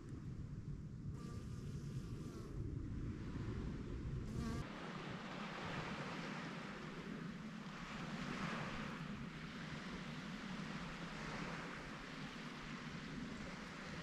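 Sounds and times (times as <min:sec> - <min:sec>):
distant sea: 0:00.0 - 0:14.0
soft hiss of wind: 0:00.0 - 0:14.0
wind rumbling on microphone: 0:00.0 - 0:14.0.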